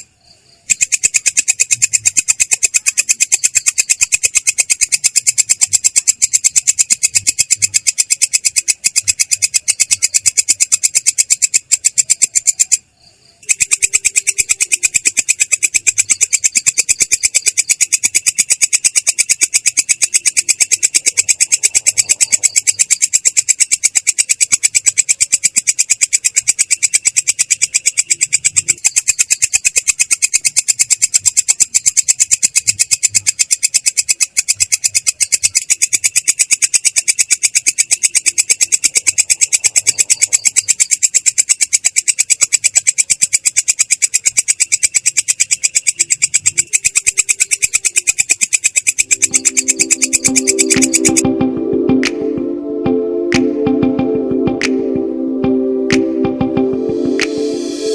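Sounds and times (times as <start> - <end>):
katydid trilling: 0.6 - 51.3.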